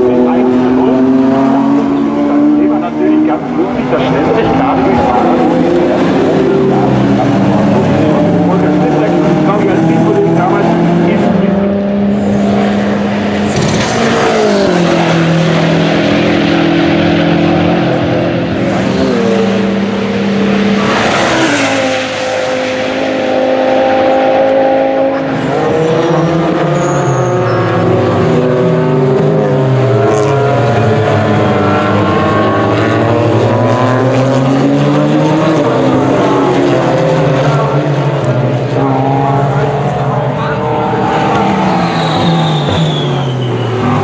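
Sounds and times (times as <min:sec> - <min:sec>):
race cars passing at speed: 0:00.0 - 0:44.0.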